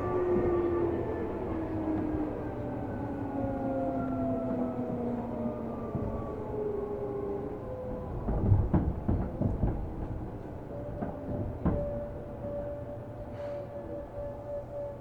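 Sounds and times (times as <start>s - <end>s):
train car clunks and clanks: 0.0s - 15.0s.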